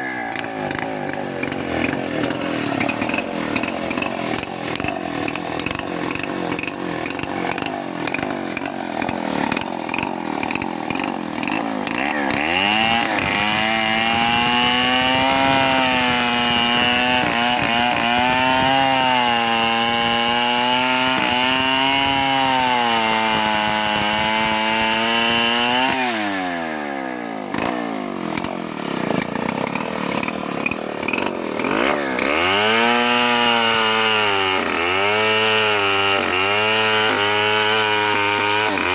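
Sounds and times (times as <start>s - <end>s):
chainsaw revving through log: 0.0s - 38.9s.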